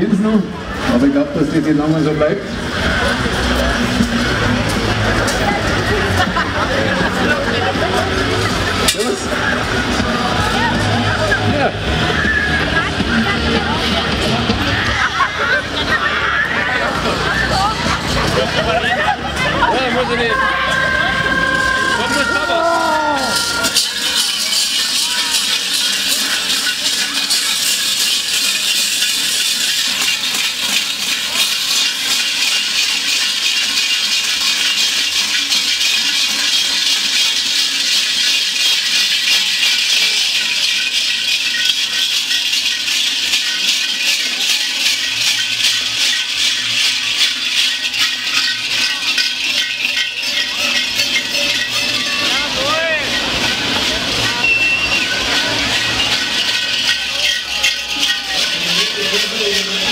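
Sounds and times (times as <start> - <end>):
metal bells jangling: 0.0 - 59.9.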